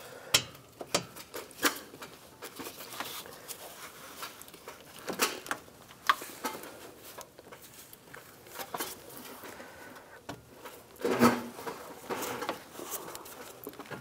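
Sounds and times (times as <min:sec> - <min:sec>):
light clicks and knocks of plastic parts: 0:00.3 - 0:14.0.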